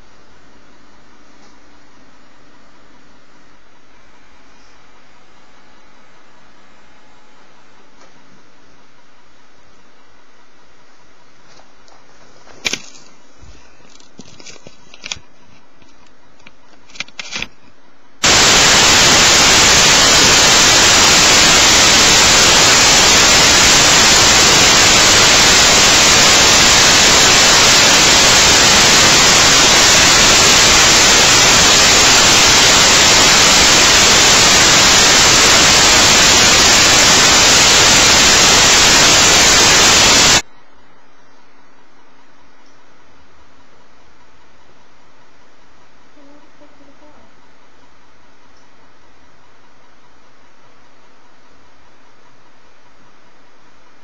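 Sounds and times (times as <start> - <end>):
white-noise static: 0.0 - 54.0.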